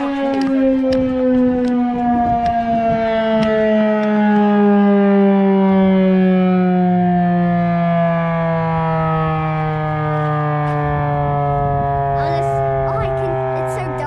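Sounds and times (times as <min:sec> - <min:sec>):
fire siren winding down: 0:00.0 - 0:14.0.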